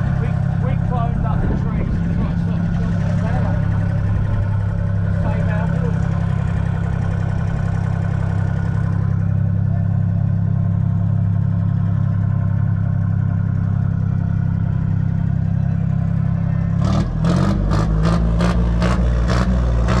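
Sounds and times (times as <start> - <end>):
diesel engine idling: 0.0 - 20.0
rhythmic engine clatter: 0.0 - 20.0.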